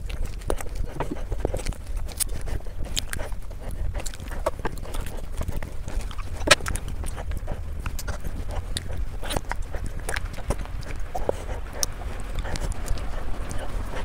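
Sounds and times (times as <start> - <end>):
low hum: 0.0 - 14.0
wet chewing and mouth clicks: 0.0 - 14.0.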